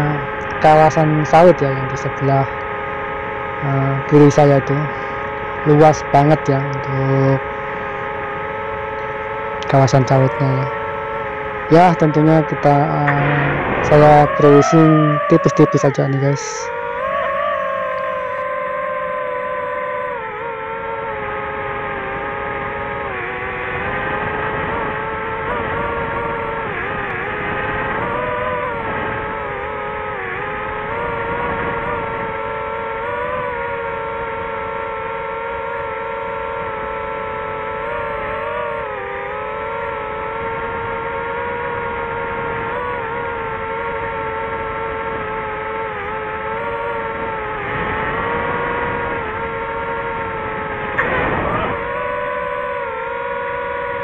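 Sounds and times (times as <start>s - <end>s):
drone propellers humming: 0.0s - 54.0s.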